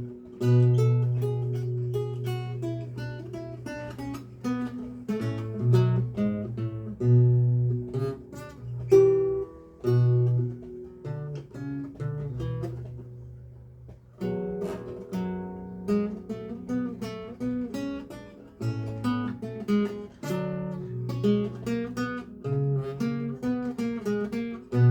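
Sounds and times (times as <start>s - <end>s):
lute playing: 0.0s - 24.9s.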